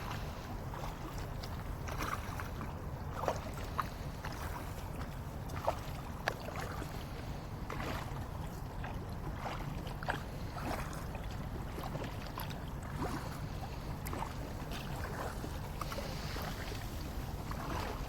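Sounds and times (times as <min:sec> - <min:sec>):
low rumble of wind and water: 0:00.0 - 0:18.0
water splashing around kayak: 0:00.0 - 0:18.0.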